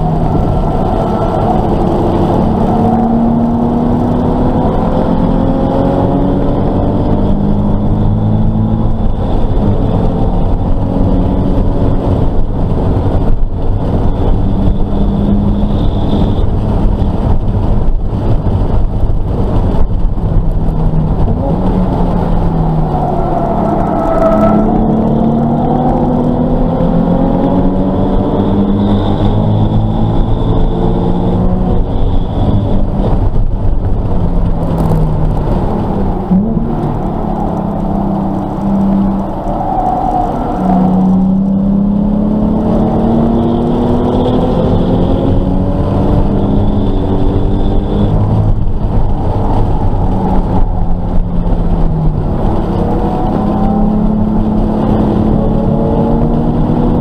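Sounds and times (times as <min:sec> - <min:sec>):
car engine accelerating: 0:00.0 - 0:57.0
road noise: 0:00.0 - 0:57.0.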